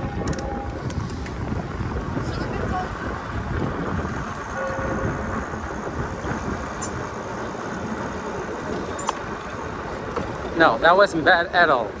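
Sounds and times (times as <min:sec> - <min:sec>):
wind on microphone: 0:00.0 - 0:10.6
rolling traffic: 0:00.0 - 0:12.0.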